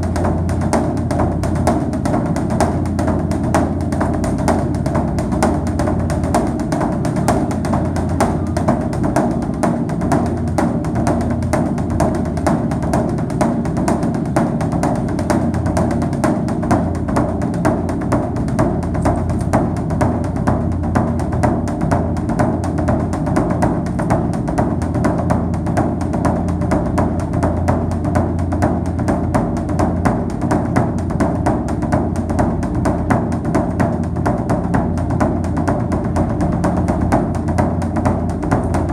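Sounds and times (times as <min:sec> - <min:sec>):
fast percussion strikes: 0:00.0 - 0:38.9.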